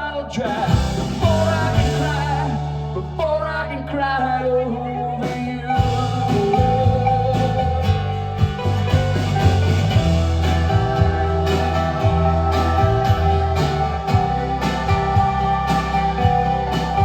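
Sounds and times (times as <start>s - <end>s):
bass line: 0.0s - 17.0s
rock guitar: 0.0s - 17.0s
steady drum beat: 0.6s - 3.2s, 5.3s - 17.0s.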